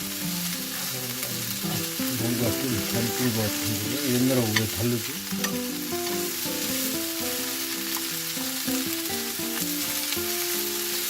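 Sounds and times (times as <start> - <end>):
background music melody: 0.0 - 11.0
food sizzling in a frying pan: 0.0 - 11.0.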